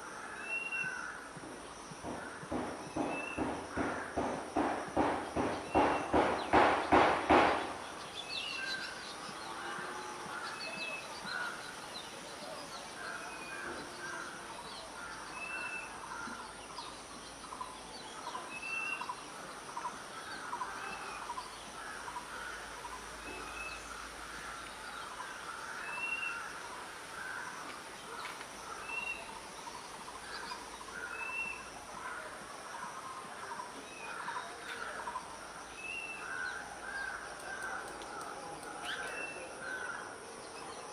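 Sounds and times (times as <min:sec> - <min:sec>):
harsh bird calls: 0:02.0 - 0:40.9.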